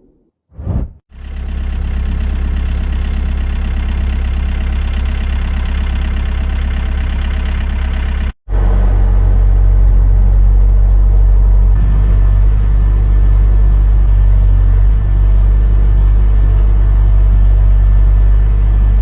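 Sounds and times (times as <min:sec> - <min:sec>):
excavator diesel engine running: 0:01.1 - 0:19.0.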